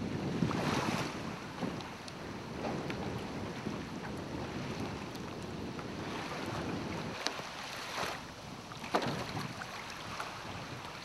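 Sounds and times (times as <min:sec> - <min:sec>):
small waves lapping: 0:00.0 - 0:11.0
wind buffeting microphone: 0:00.0 - 0:11.0.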